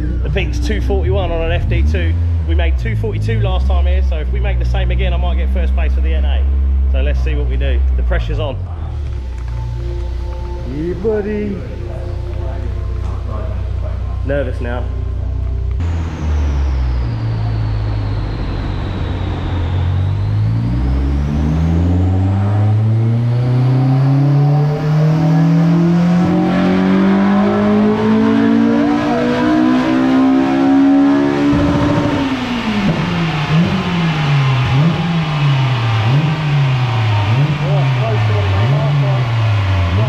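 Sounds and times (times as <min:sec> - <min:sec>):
car engine revving at full throttle: 0:00.0 - 0:40.0
high whine: 0:00.0 - 0:40.0.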